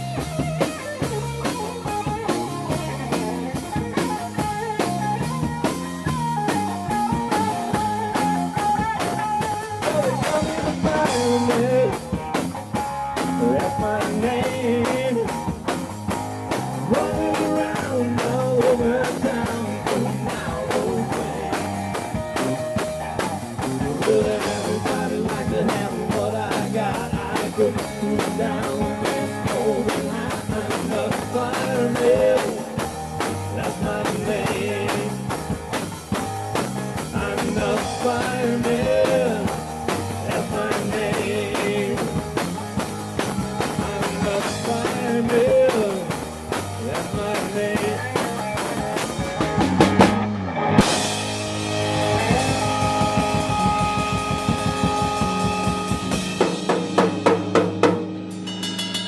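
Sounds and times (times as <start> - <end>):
bass guitar: 0.0 - 59.0
drum kit with cymbals: 0.0 - 59.0
electric guitar lead: 0.0 - 59.0.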